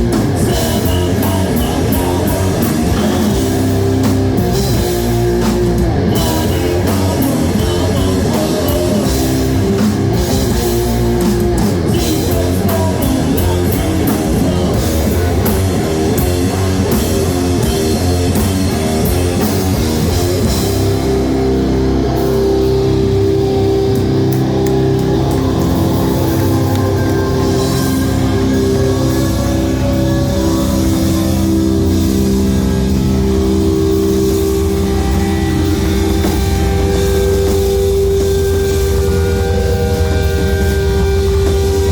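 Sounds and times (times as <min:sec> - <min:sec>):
bass guitar: 0:00.0 - 0:41.9
distorted electric guitars: 0:00.0 - 0:41.9
drum kit: 0:00.0 - 0:41.9.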